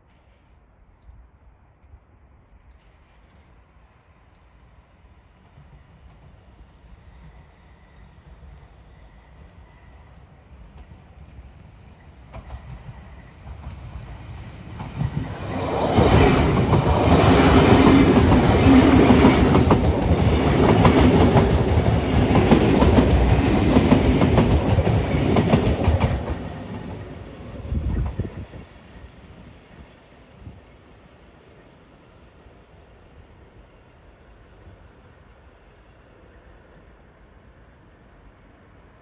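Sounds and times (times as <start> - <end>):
electric train passing: 2.8 - 39.0.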